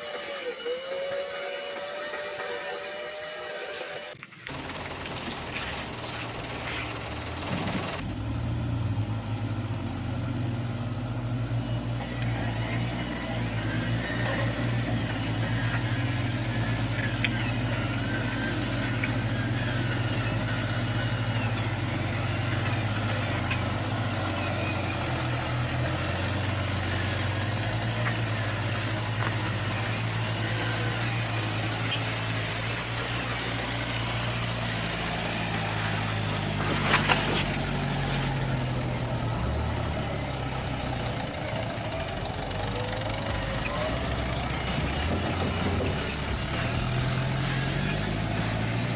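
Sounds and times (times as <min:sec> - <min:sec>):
toy truck motor hum: 0:00.0 - 0:08.6, 0:09.3 - 0:48.9.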